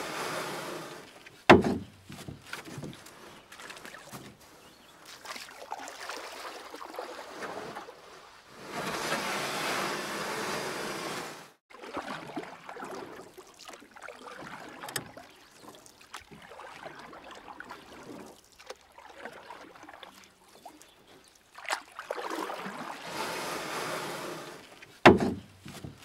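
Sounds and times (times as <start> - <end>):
paddle strokes splashing water: 0.0 - 26.0.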